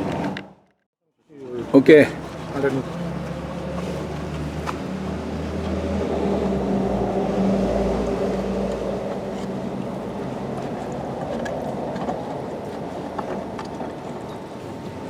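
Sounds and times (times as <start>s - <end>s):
diesel engine running: 1.5s - 15.0s.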